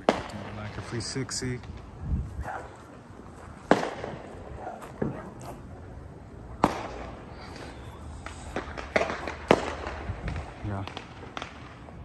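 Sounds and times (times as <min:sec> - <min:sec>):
fireworks bangs and pops: 0:00.0 - 0:02.6, 0:03.4 - 0:05.7, 0:06.6 - 0:12.0.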